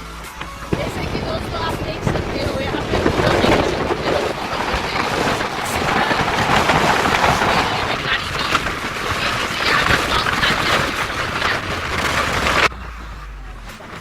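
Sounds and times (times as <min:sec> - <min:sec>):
firecrackers crackling: 0:00.0 - 0:12.7.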